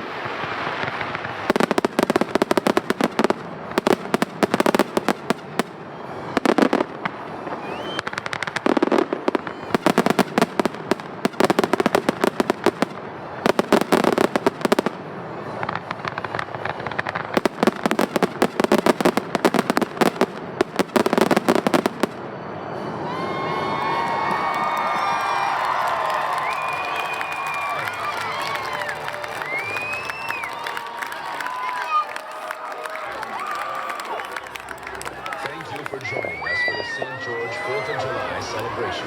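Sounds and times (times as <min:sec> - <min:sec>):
fireworks bangs and crackle: 0:00.0 - 0:39.0.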